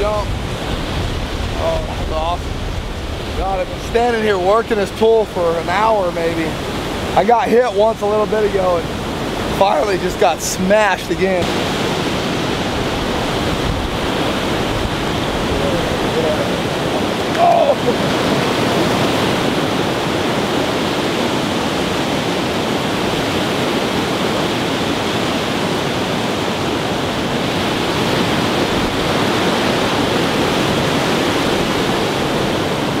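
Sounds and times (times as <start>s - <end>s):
river rapids rushing: 0.0s - 33.0s.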